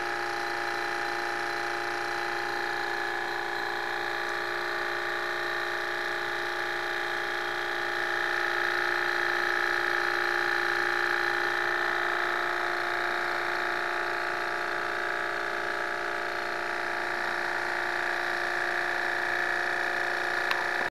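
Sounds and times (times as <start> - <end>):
model stirling engine whirring: 0.0 - 20.9.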